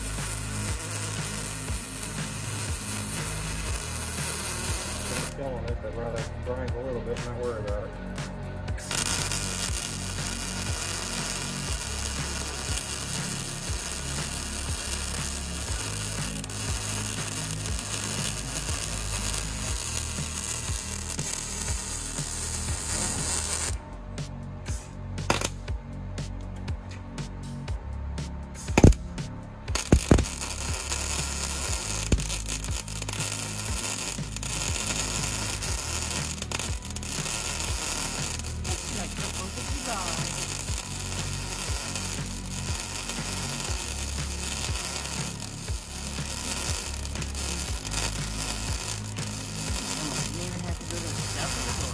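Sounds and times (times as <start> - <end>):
welder arc crackling: 0.0 - 5.5, 8.7 - 23.8, 24.7 - 25.6, 28.6 - 29.0, 29.6 - 51.9
background music with bass: 0.0 - 51.9.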